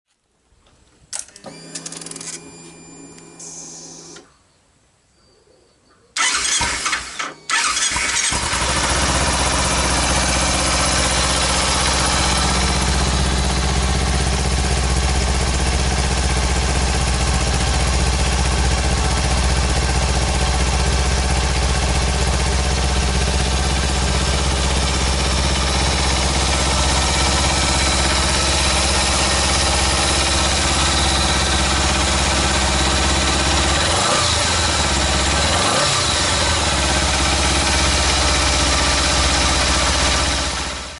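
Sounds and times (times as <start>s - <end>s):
motorcycle engine idling: 6.2s - 40.9s.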